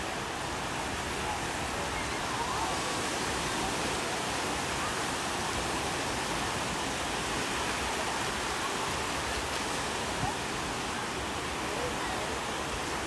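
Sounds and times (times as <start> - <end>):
small waves washing through surf: 0.0 - 13.0.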